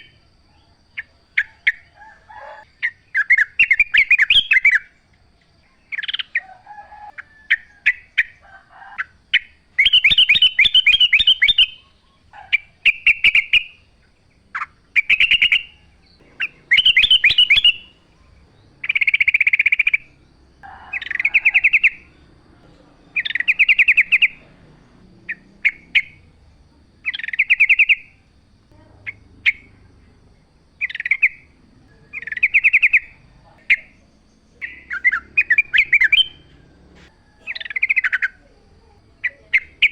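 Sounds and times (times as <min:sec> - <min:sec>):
bird chattering song: 0:00.0 - 0:06.6, 0:09.0 - 0:39.9.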